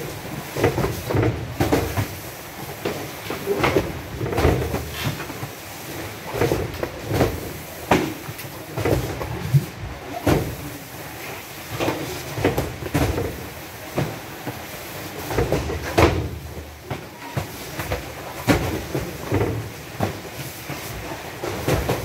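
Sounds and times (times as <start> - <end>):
cartons thudding and knocking: 0.0 - 2.2, 2.8 - 5.5, 6.3 - 10.7, 11.7 - 22.0.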